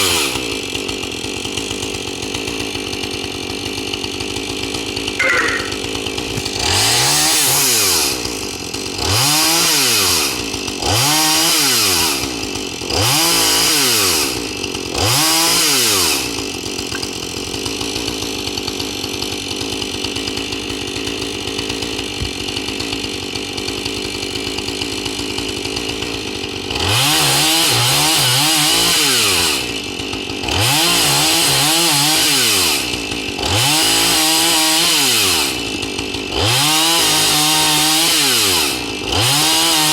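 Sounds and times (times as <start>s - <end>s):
chainsaw engine revving: 0.0s - 39.9s
chainsaw idling: 0.0s - 39.9s.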